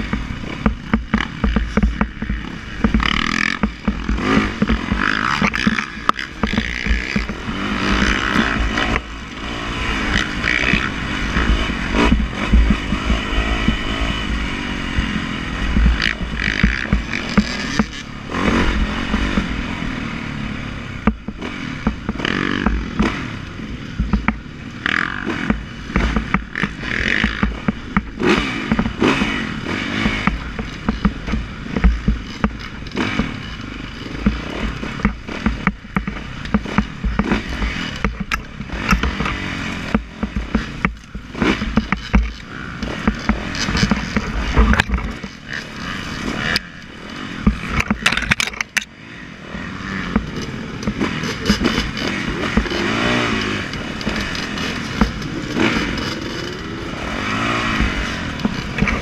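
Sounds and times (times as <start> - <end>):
knocks and clatter: 0.0 - 14.4, 15.6 - 19.6, 21.0 - 48.9, 49.6 - 59.0
motorcycle engine revving: 0.0 - 59.0.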